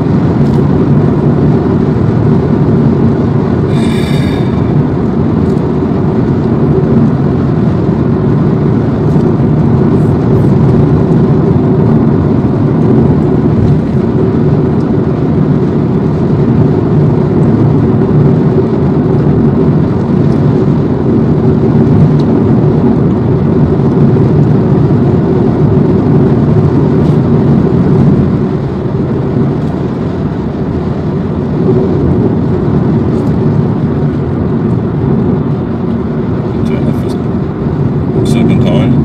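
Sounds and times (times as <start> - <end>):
car cabin road and engine noise: 0.0 - 39.0.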